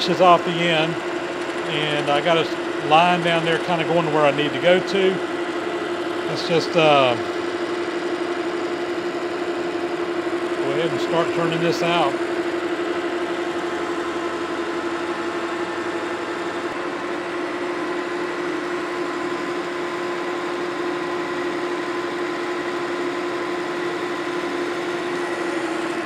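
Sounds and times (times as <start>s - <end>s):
metal lathe running: 0.0s - 26.0s.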